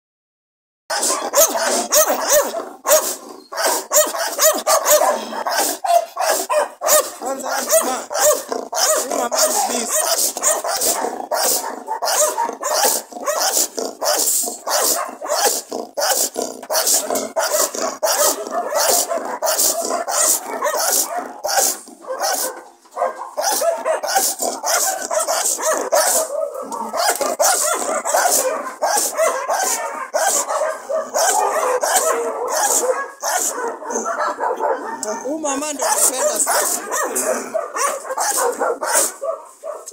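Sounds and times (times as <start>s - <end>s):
dog barking aggressively: 0.9s - 39.9s.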